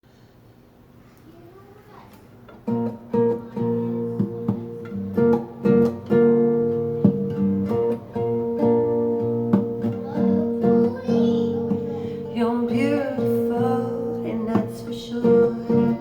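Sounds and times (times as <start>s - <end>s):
guitar strumming chords: 2.5s - 16.0s.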